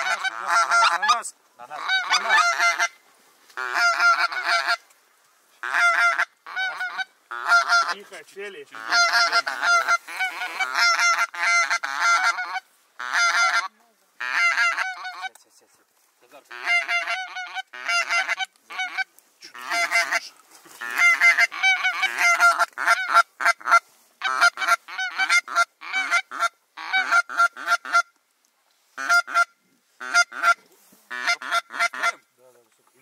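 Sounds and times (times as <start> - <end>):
goose honking: 0.0 - 3.0, 3.6 - 4.8, 5.6 - 15.4, 16.5 - 28.1, 29.0 - 32.3.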